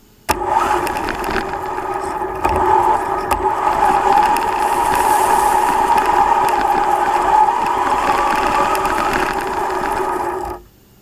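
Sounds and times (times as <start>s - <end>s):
electric motor whining: 0.3s - 10.7s
tyre and chassis noise: 0.3s - 10.7s.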